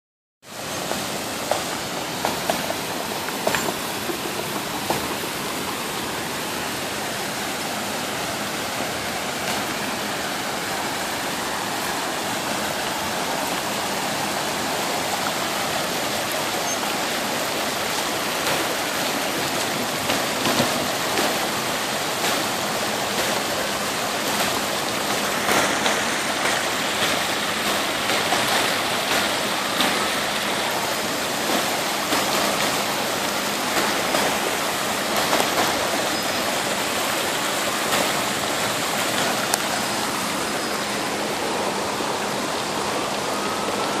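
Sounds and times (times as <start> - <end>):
floodwater rushing over pavement: 0.4 - 44.0
rain falling: 0.4 - 44.0.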